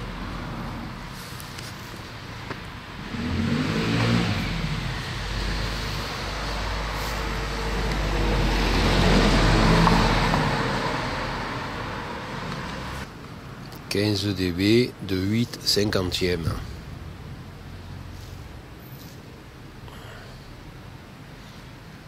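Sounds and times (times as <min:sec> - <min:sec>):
vehicles passing on road: 0:00.0 - 0:22.0.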